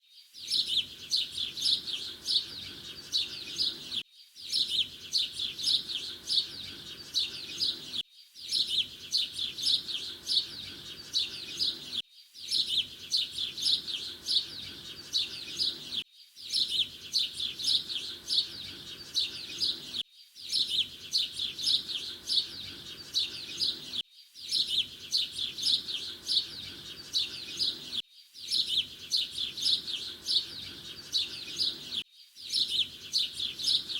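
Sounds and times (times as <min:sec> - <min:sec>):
canaries singing: 0:00.4 - 0:33.9.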